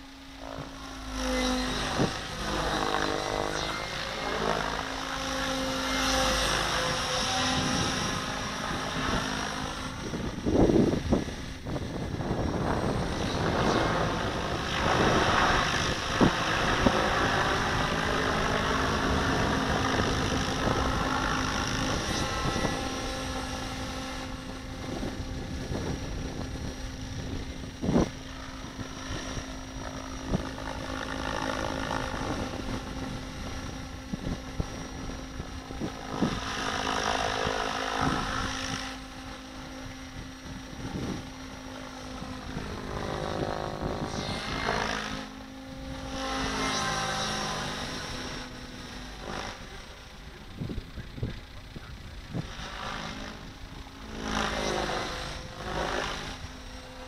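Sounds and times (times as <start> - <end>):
helicopter rotor and motor whine: 0.0 - 57.0.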